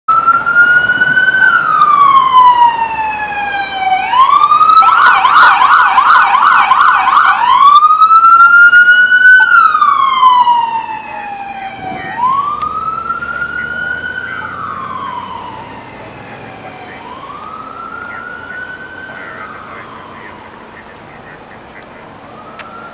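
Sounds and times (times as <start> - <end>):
police siren wailing and yelping: 0.1 - 22.9.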